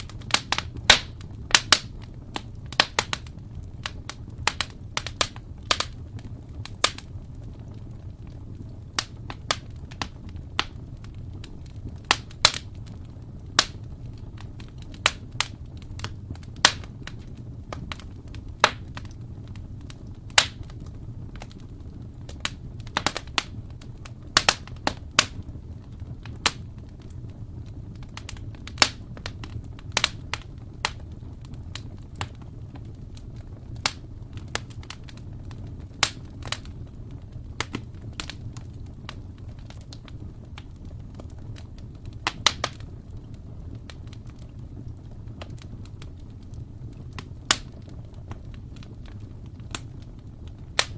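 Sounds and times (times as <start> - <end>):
low rumble of flames: 0.0 - 50.9
wood fire crackling: 0.0 - 50.9.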